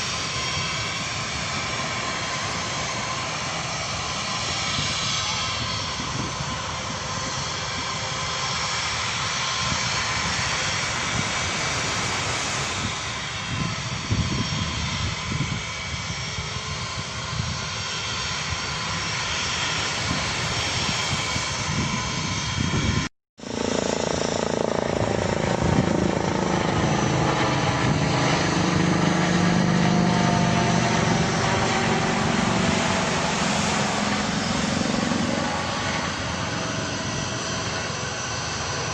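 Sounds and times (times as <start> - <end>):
airplane engine: 0.0 - 38.9.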